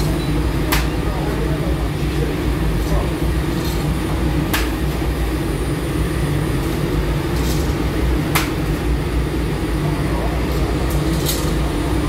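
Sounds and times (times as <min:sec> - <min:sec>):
bread machine rumbling: 0:00.0 - 0:12.0.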